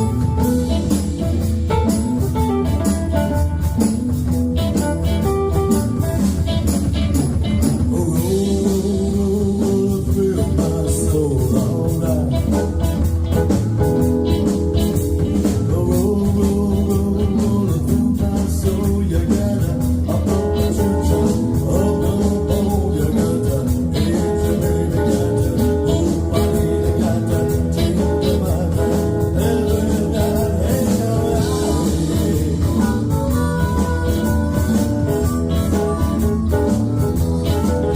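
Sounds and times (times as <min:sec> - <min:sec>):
electric guitar: 0:00.0 - 0:37.9
live blues band: 0:00.0 - 0:37.9.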